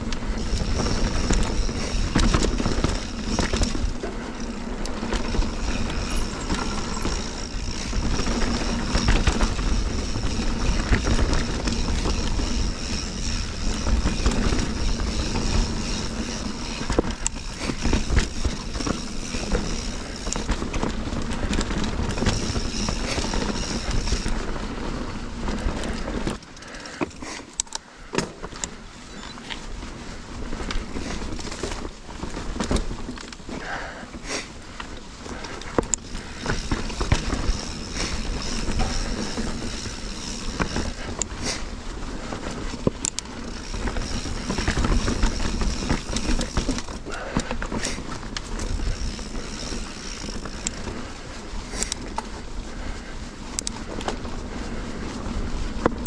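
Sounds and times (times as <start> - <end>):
bike rattles and knocks: 0.0 - 56.0
bike tyre noise: 0.0 - 56.0.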